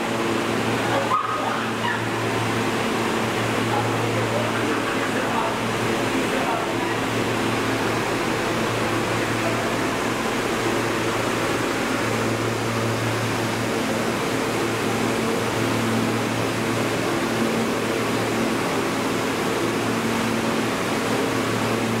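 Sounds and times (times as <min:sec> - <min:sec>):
air conditioning hum and hiss: 0:00.0 - 0:22.0.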